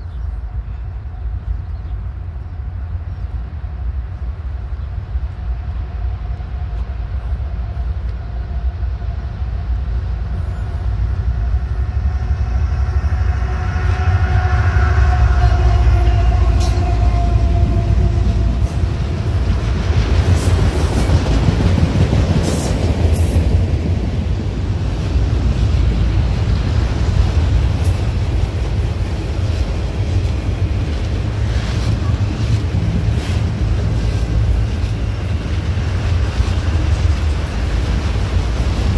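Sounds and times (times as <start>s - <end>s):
locomotive whine: 0.0s - 38.9s
train low rumble: 0.0s - 38.9s.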